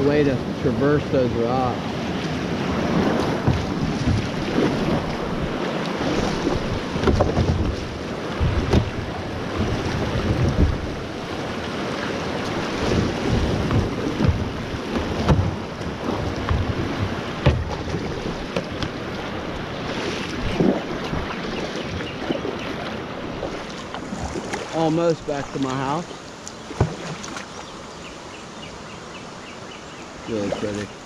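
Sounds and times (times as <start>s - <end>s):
wind buffeting microphone: 0.0s - 26.0s
water splashing around kayak: 0.0s - 31.0s.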